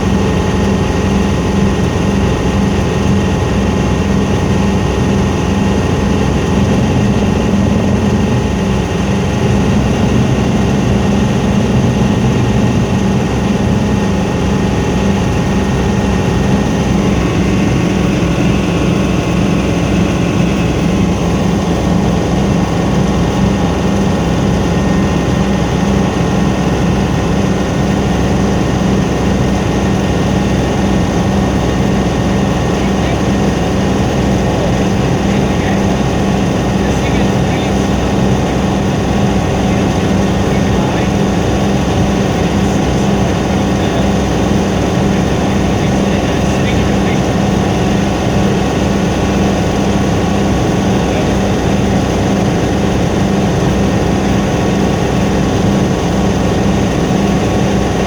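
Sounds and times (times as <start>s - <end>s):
helicopter engine and rotor: 0.0s - 58.0s.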